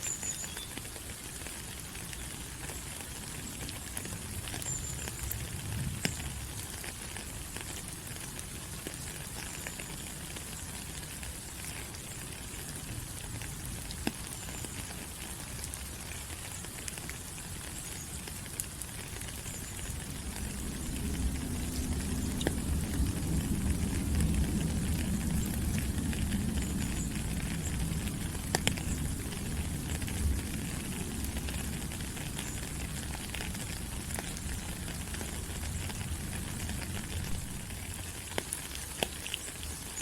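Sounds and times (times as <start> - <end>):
rain on foliage: 0.0 - 40.0
sharp drips: 1.8 - 40.0.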